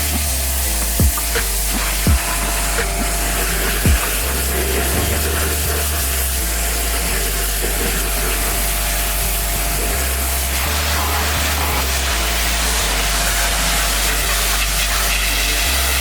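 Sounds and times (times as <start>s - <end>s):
low machine hum: 0.0s - 15.9s
water spraying on truck: 0.0s - 16.0s.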